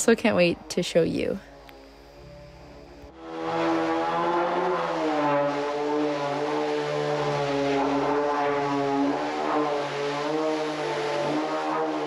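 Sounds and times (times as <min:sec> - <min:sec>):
sustained chords over low note: 0:00.0 - 0:12.0.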